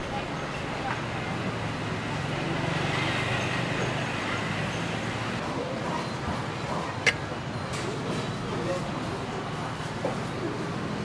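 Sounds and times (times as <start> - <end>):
busy market background noise: 0.0 - 11.0.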